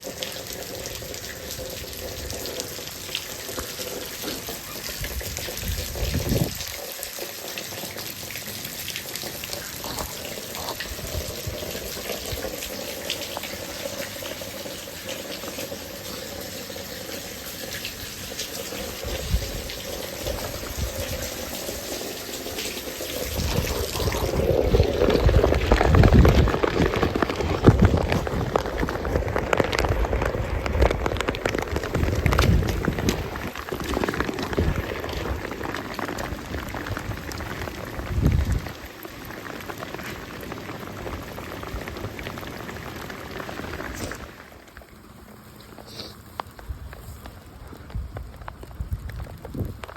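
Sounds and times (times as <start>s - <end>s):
heavy rain falling: 0.0s - 49.9s
pouring water: 0.0s - 49.9s.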